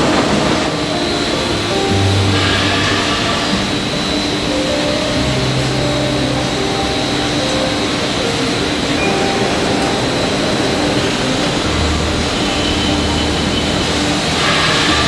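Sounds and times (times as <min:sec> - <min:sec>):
machinery rushing noise: 0:00.0 - 0:15.0.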